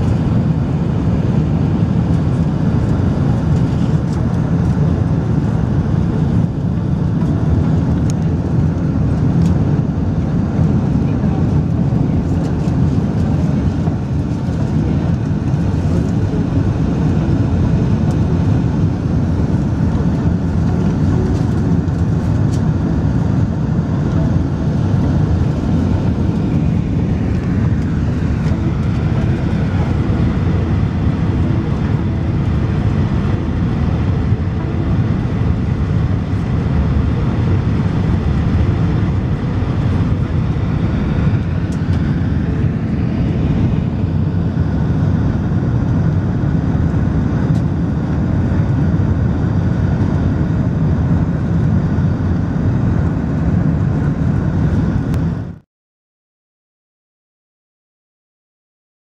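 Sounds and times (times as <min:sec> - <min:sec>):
jet engine and airflow noise: 0:00.0 - 0:55.6.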